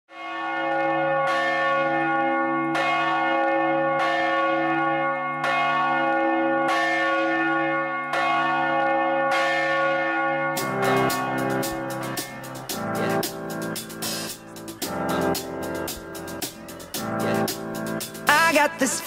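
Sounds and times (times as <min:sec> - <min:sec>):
church bells tolling: 0:00.1 - 0:18.2.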